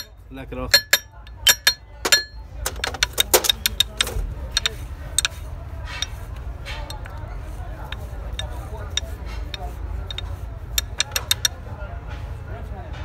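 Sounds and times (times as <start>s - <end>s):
steel rod tapping metal gears: 0.0s - 7.2s, 7.8s - 11.6s.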